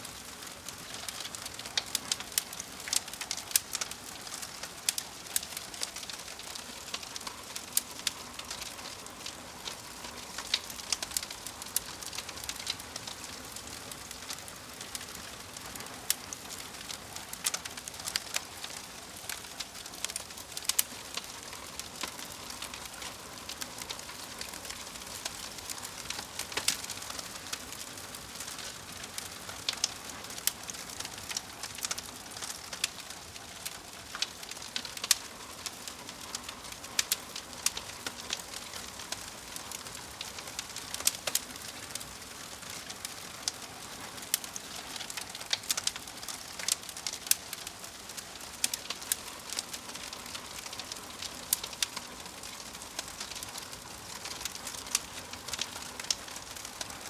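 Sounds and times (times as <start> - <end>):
wood fire crackling: 0.0 - 57.0
sharp pops from burning logs: 0.2 - 57.0.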